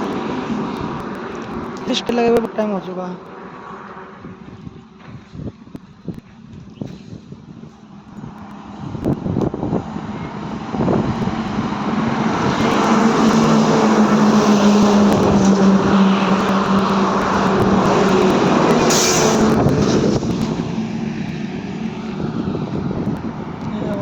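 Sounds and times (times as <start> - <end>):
motorcycle engine drone: 3.2 - 24.0
loud wind rush: 3.4 - 24.0.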